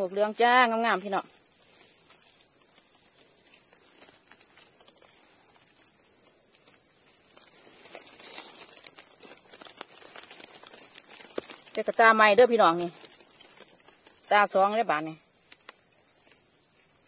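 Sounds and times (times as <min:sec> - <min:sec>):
high-pitched drone of insects: 0:00.0 - 0:17.0
faint clicks and rustles: 0:01.4 - 0:16.6.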